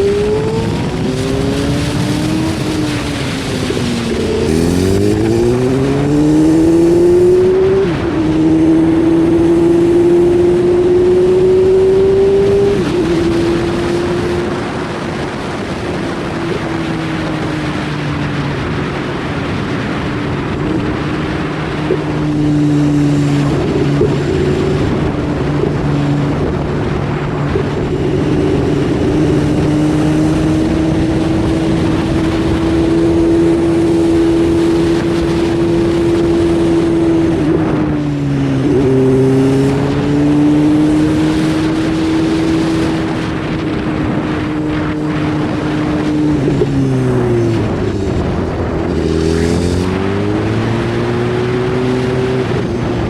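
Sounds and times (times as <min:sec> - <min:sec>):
motorcycle engine accelerating: 0:00.0 - 0:53.0
wind rushing over microphone: 0:00.0 - 0:53.0.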